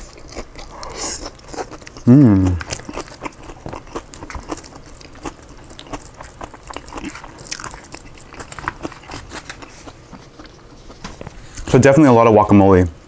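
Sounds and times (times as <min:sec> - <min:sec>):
chewing and crunching salad: 0:00.0 - 0:11.8.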